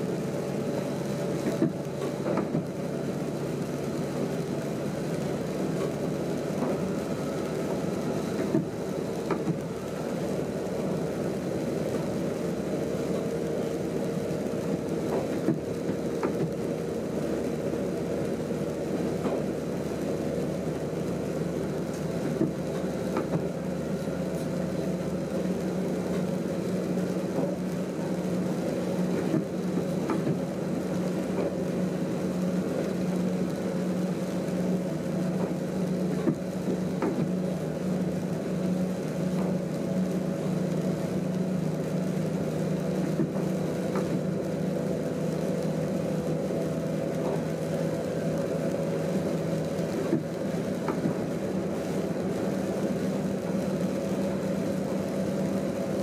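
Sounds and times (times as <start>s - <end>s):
train running hum: 0.0s - 56.0s.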